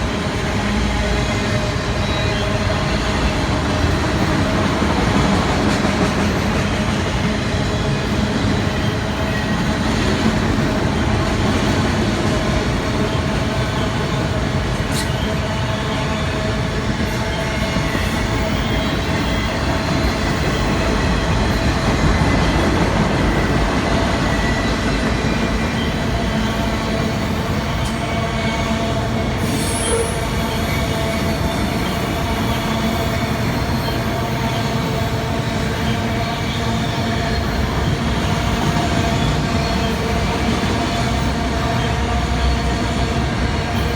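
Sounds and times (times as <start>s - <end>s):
train cars rumbling on rails: 0.0s - 43.9s
train wheel squeal: 0.0s - 43.9s.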